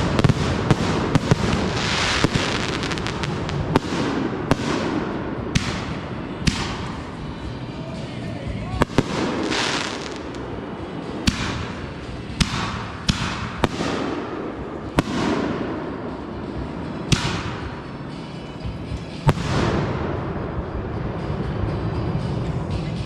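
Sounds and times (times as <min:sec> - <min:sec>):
fireworks bangs with hiss: 0:00.0 - 0:07.7, 0:08.8 - 0:21.3.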